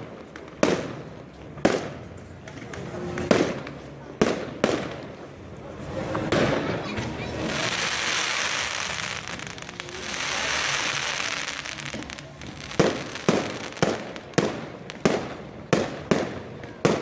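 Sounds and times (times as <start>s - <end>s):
fireworks sharp bangs: 0.0s - 2.2s, 2.8s - 17.0s
fireworks crackling hiss: 0.0s - 17.0s.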